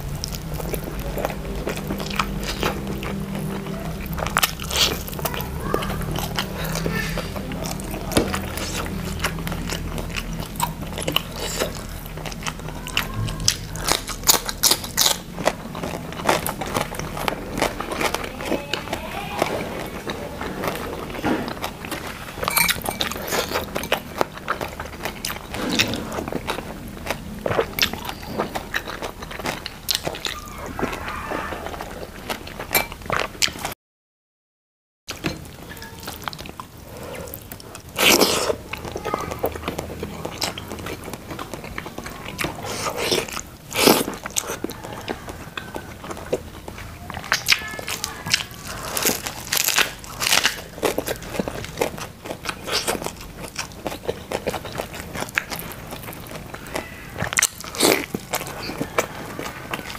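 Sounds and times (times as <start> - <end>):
person chewing and crunching food: 0.0 - 33.7, 35.1 - 59.9.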